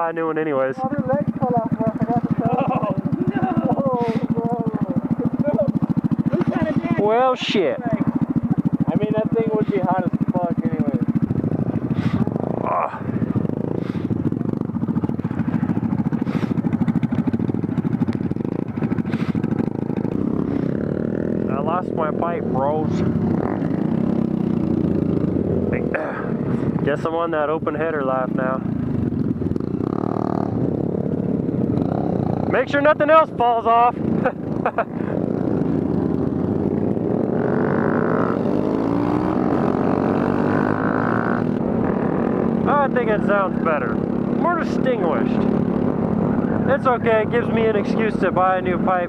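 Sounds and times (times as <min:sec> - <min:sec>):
motorcycle engine exhaust beat: 0:00.0 - 0:49.0.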